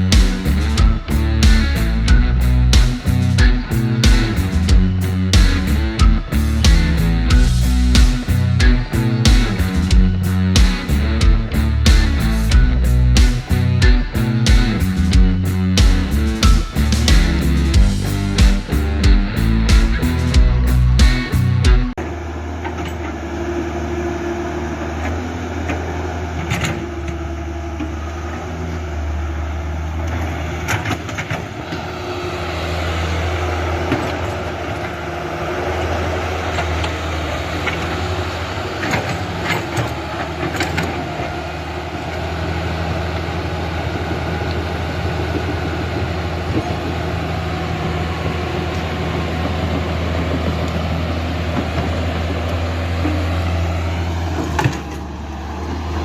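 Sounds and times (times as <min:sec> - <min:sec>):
excavator motor humming: 0:00.0 - 0:56.0.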